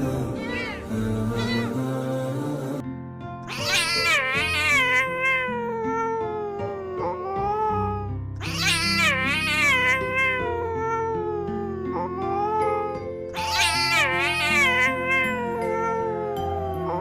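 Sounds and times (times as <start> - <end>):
background music: 0.0 - 17.0
cat yowling: 0.4 - 0.8, 1.4 - 1.8, 3.5 - 17.0.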